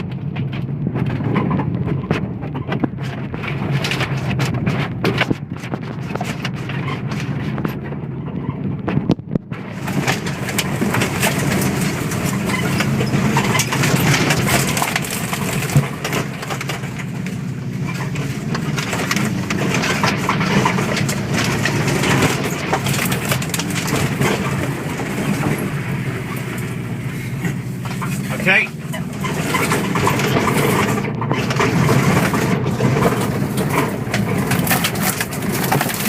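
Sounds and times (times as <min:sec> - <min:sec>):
rally car engine droning: 0:00.0 - 0:36.0
rattling and clicking: 0:00.0 - 0:36.0.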